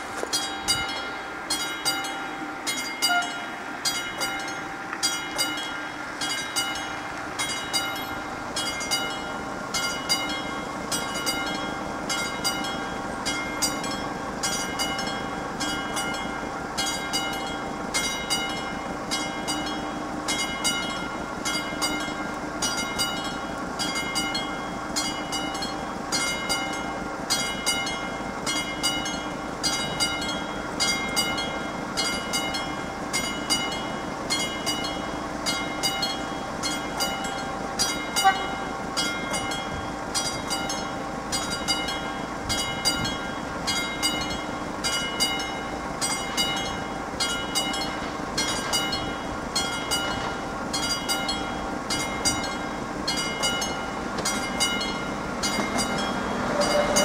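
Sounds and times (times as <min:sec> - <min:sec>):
level crossing bell ringing: 0:00.0 - 0:57.0.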